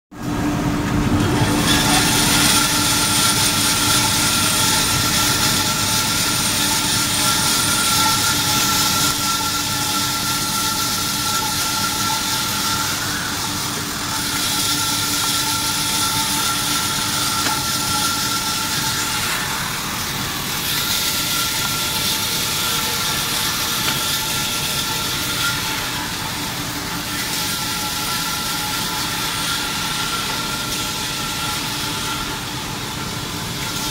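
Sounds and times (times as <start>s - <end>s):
band saw humming: 0.2s - 33.9s.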